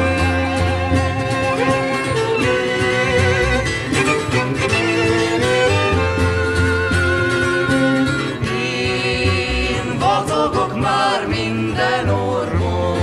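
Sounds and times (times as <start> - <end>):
country string-band music: 0.0 - 13.0.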